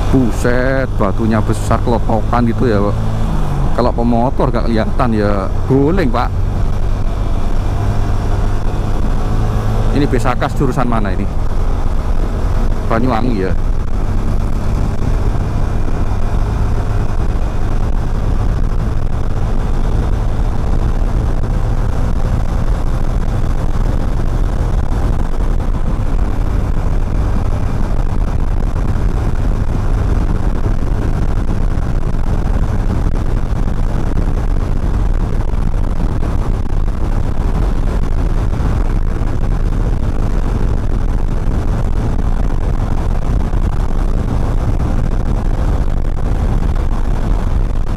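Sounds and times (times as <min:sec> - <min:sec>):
wind and motorcycle engine rumble: 0:00.0 - 0:47.9.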